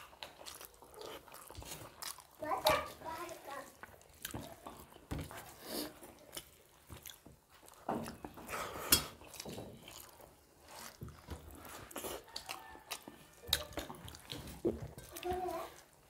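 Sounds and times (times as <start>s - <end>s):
people chewing and lip smacking: 0.0s - 16.0s
fingers mixing rice on steel plates: 0.1s - 16.0s.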